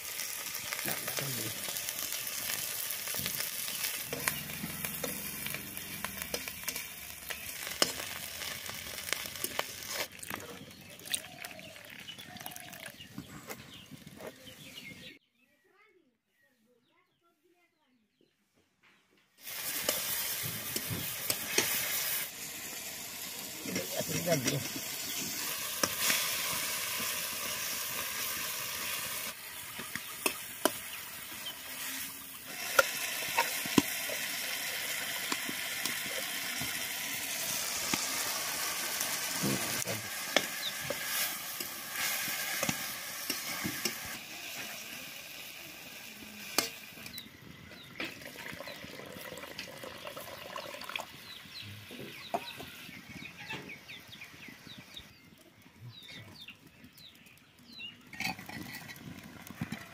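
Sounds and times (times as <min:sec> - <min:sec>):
tomatoes sizzling in hot oil: 0:00.0 - 0:14.1, 0:19.4 - 0:55.3, 0:57.2 - 0:59.9.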